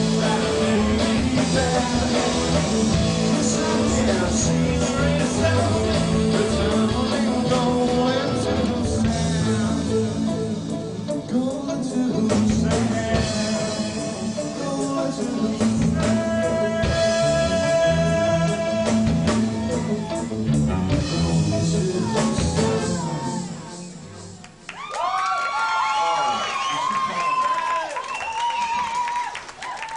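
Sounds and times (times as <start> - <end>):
person singing: 0.0 - 24.6
rock band playing: 0.0 - 24.8.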